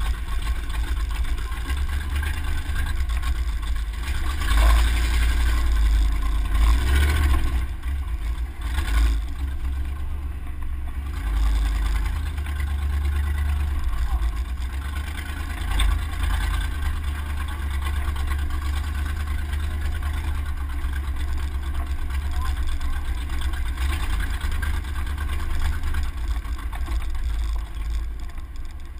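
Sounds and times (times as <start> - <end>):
truck engine low rumble: 0.0 - 28.9.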